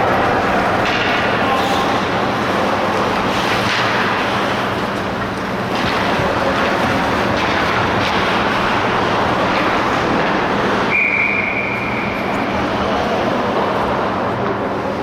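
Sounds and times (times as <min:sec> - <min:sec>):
ice hockey rink ambience: 0:00.0 - 0:15.0.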